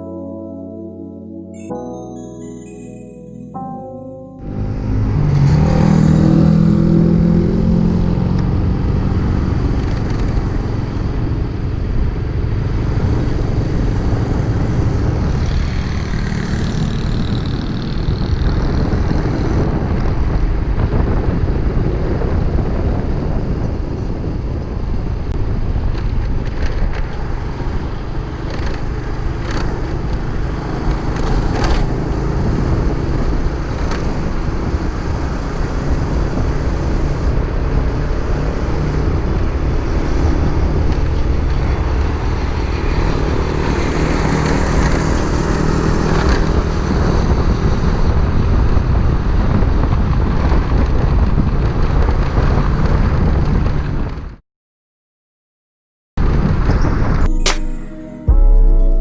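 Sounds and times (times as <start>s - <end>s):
motorcycle engine accelerating: 4.4s - 54.0s
road noise: 4.4s - 54.4s.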